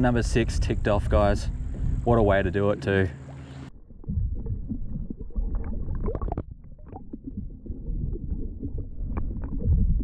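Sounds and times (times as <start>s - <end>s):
muffled underwater rumbling: 0.0s - 10.0s.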